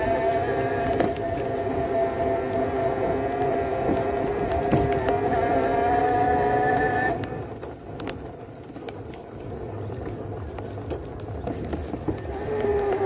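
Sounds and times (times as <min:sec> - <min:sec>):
van rumbling on dirt road: 0:00.0 - 0:13.0.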